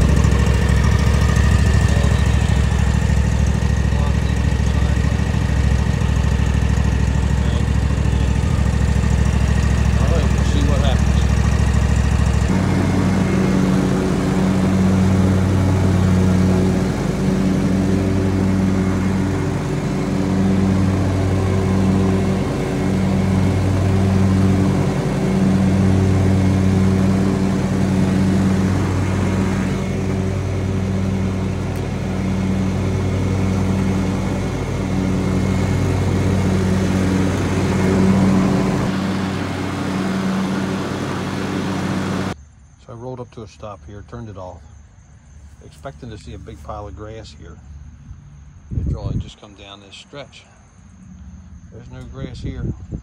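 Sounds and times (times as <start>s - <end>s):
lawn tractor engine droning: 0.0s - 42.4s, 45.4s - 52.7s.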